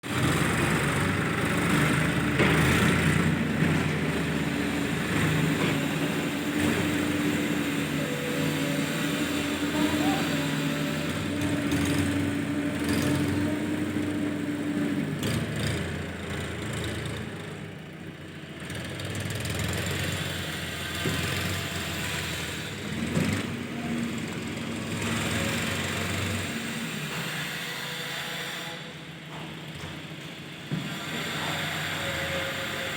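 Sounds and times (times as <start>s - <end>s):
diesel engines running: 0.0s - 32.9s.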